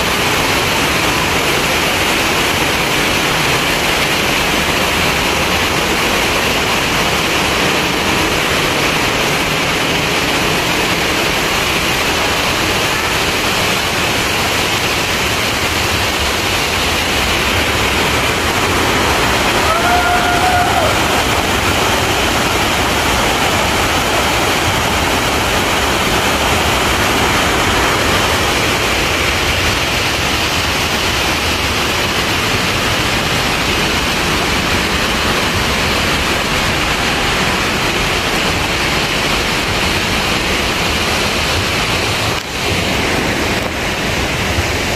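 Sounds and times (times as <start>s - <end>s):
water rushing over dam spillway: 0.0s - 44.9s.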